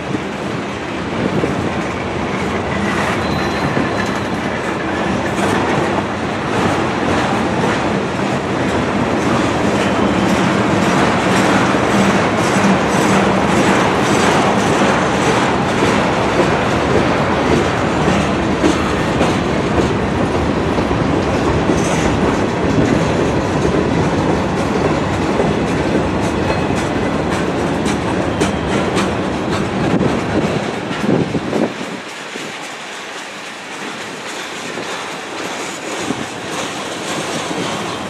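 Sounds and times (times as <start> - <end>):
train wheels rumbling: 0.0 - 38.0
wheels clacking over rail joints: 0.0 - 38.0.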